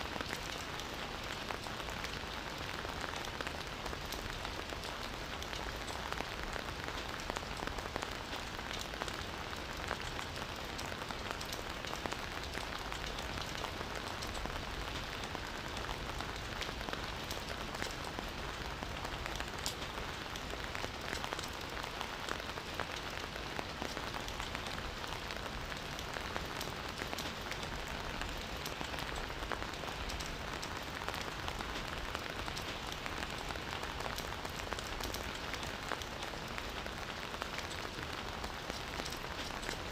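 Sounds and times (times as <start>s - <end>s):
raindrops pattering on leaves: 0.0s - 39.9s
steady rain hiss: 0.0s - 39.9s.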